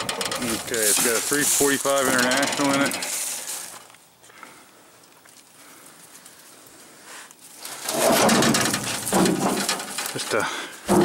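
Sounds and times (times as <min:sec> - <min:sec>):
soft ticks and rustles: 0:00.0 - 0:10.5.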